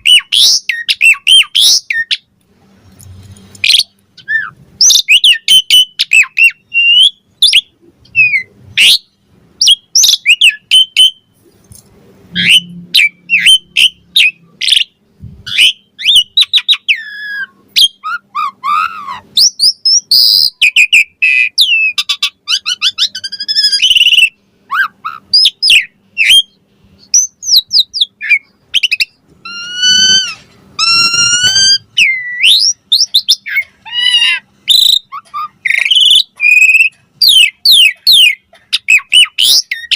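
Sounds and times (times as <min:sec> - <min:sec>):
starling singing: 0:00.0 - 0:02.3, 0:03.6 - 0:11.3, 0:12.3 - 0:39.9.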